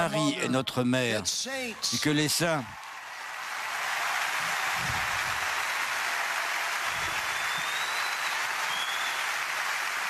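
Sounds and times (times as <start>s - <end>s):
crowd applauding: 1.6s - 10.0s.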